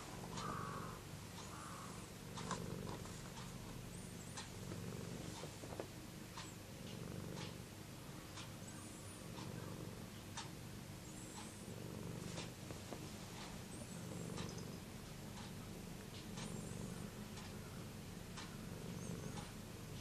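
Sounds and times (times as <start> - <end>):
cat purring: 0.0 - 20.0
faint clicks: 0.2 - 7.6, 11.2 - 20.0.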